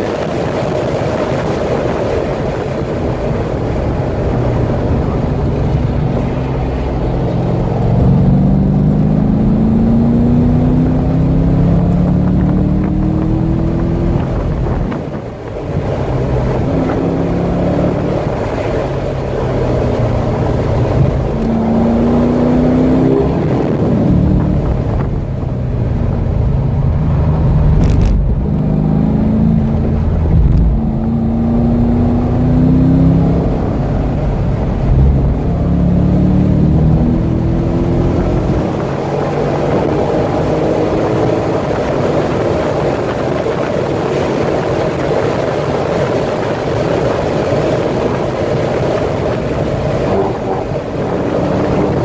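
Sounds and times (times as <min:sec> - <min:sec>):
car engine at full throttle: 0:00.0 - 0:52.0
wind noise: 0:00.0 - 0:52.0.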